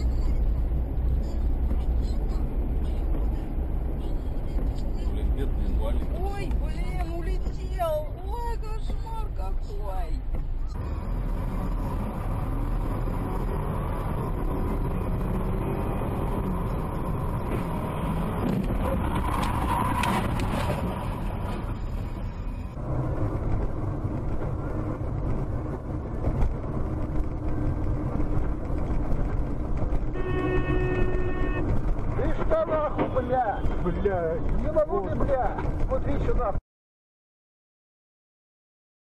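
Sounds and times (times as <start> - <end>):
car engine and road noise: 0.0 - 36.6.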